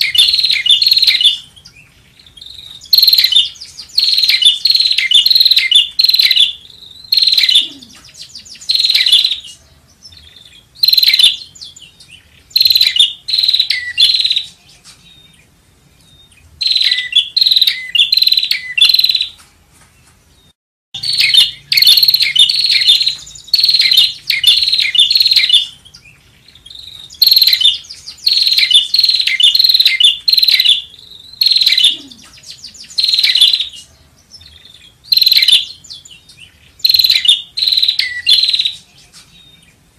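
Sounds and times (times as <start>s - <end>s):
bird chirping rapidly: 0.0s - 19.4s, 20.3s - 39.9s.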